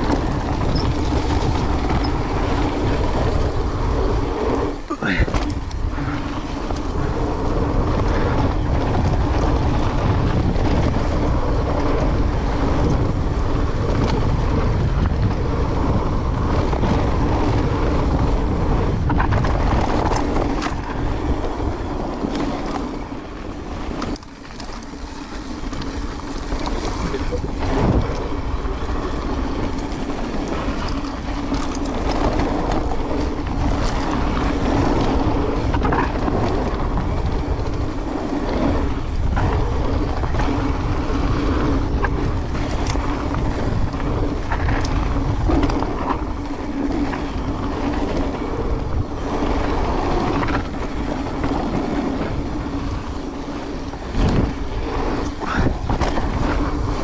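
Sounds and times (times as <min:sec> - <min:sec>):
bike rattling on rough trail: 0:00.0 - 0:57.0
wind on microphone: 0:00.0 - 0:57.0.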